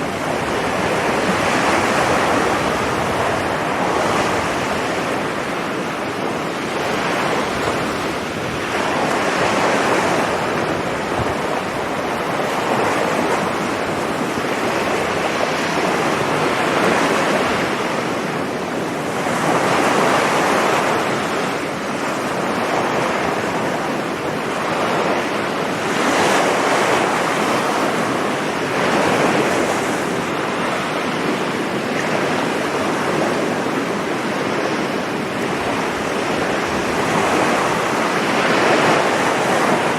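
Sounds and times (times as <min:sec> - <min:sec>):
sea waves breaking on beach: 0:00.0 - 0:39.9
wind buffeting microphone: 0:00.0 - 0:39.9.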